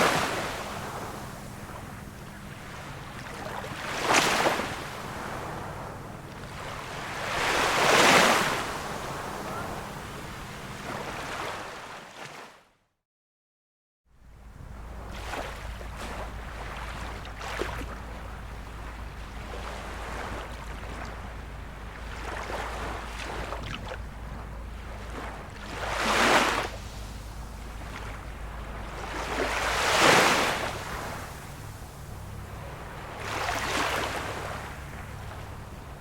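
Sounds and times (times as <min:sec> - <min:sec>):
wind rumble on microphone: 0:00.0 - 0:11.7, 0:14.2 - 0:36.0
small waves lapping: 0:00.0 - 0:12.6, 0:14.2 - 0:36.0.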